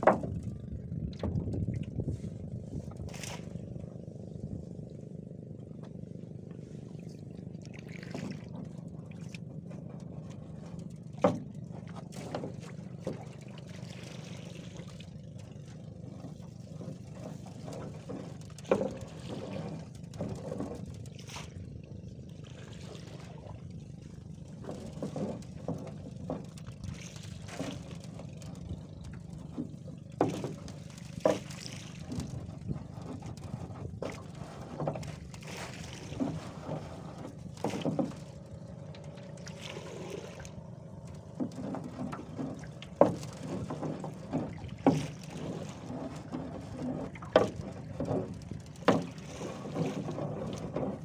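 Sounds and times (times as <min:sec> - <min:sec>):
steady low rumble: 0:00.0 - 0:49.4.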